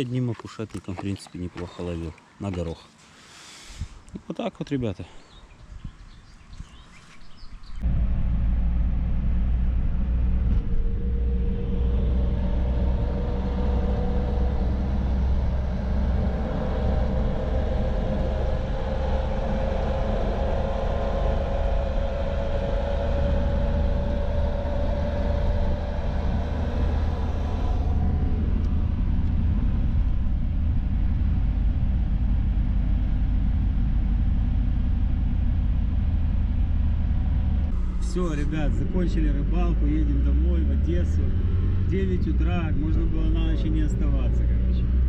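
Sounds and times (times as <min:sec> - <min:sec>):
car engine and road rumble: 0:05.7 - 0:45.0.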